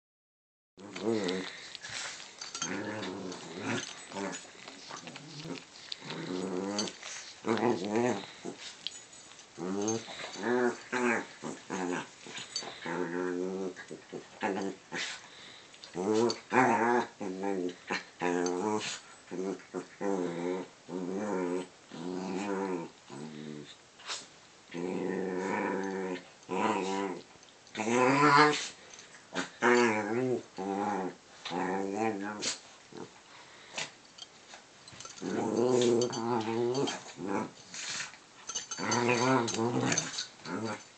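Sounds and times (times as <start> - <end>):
small dogs play-growling: 0.8 - 34.0, 34.9 - 40.9.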